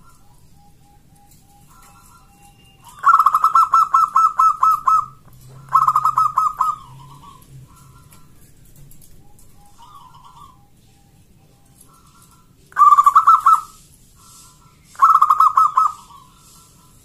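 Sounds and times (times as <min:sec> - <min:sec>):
dove rapid staccato cooing: 0:00.0 - 0:17.0
faint bird notes: 0:00.0 - 0:17.0.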